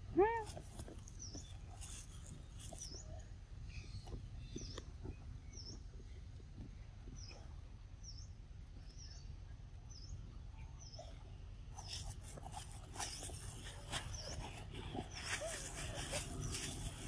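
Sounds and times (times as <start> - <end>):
low outdoor rumble: 0.0 - 17.0
bird chirping: 0.4 - 17.0.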